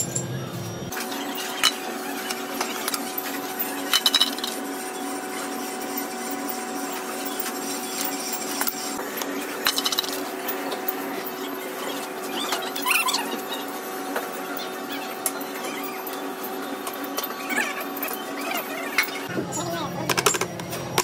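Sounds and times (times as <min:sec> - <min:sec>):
workshop machinery humming: 0:00.0 - 0:21.0.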